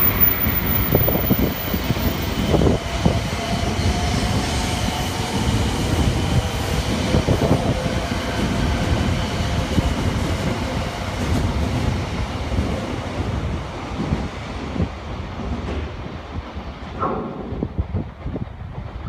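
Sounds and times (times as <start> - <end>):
high-speed train passing: 0.0 - 19.0.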